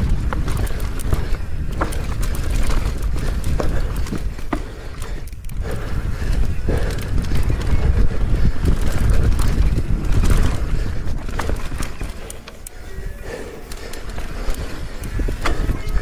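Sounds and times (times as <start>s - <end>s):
bike rattling clicks and knocks: 0.0s - 16.0s
tyres crunching over rock: 0.0s - 16.0s
wind buffeting microphone: 0.0s - 16.0s.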